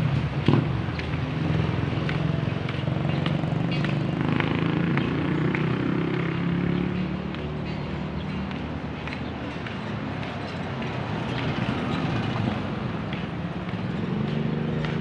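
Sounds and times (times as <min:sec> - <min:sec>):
traffic engines humming: 0:00.0 - 0:15.0.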